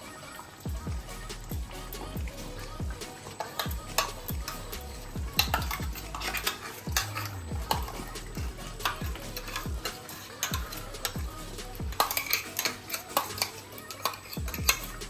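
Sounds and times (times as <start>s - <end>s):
background music with deep beat: 0.0s - 15.0s
metal spoon scraping steel jar: 1.2s - 15.0s.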